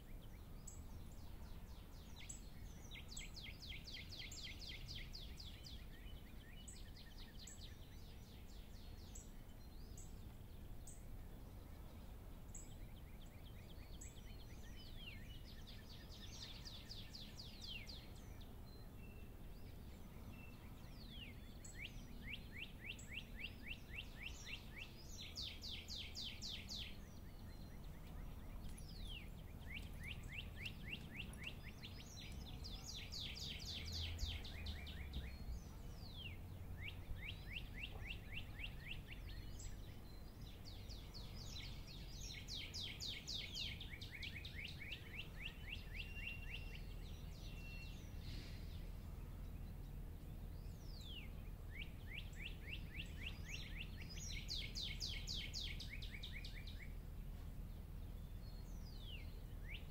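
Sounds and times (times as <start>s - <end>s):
faint low background rumble: 0.0s - 59.9s
songbirds singing: 0.0s - 59.9s.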